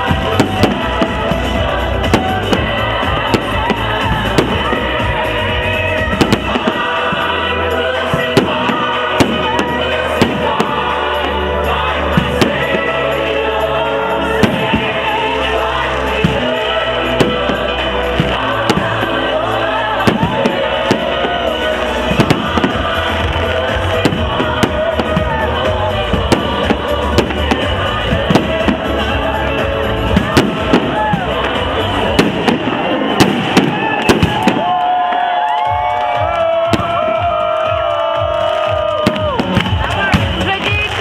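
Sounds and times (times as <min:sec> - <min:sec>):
fireworks bangs and cracks: 0:00.0 - 0:41.0
loud music: 0:00.0 - 0:41.0.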